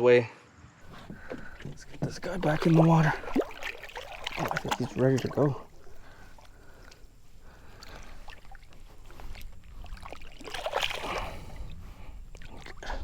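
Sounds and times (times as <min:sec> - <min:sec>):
water sloshing and splashing: 0:00.8 - 0:13.0.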